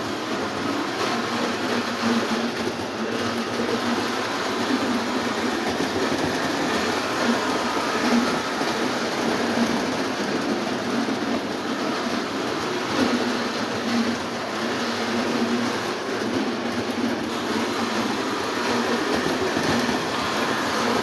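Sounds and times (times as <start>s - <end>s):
model train motor whirring: 0.0s - 21.0s
wheels clattering on rails: 0.0s - 21.0s.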